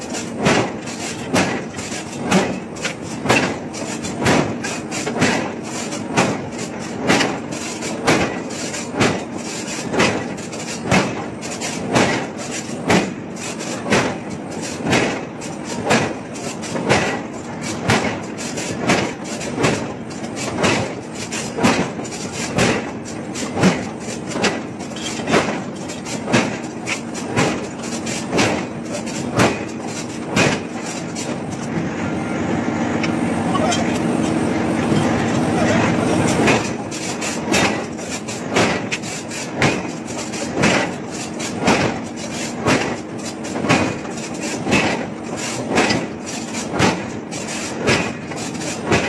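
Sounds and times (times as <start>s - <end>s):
steady machine hum: 0.0s - 49.0s.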